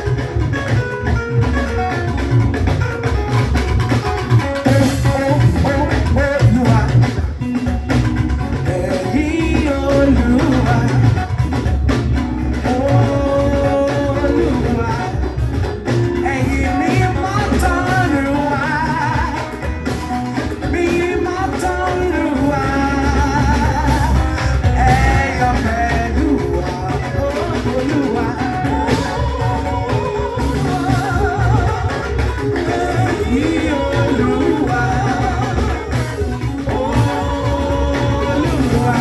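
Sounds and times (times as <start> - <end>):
song with bass guitar and drums: 0.0 - 39.0.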